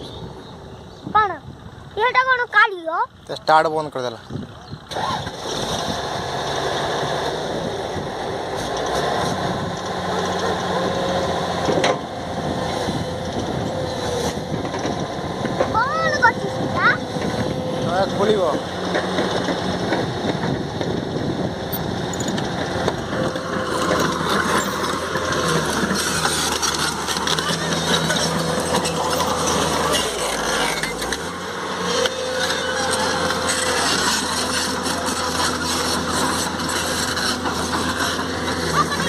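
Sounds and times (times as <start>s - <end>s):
excavator diesel engine running: 4.2s - 39.0s
crawler tracks moving: 4.8s - 39.0s.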